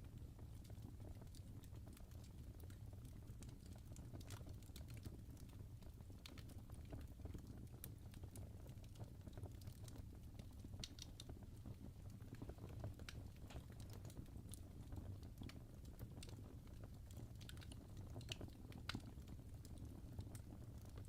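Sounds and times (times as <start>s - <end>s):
fire crackling faintly: 0.0s - 21.0s.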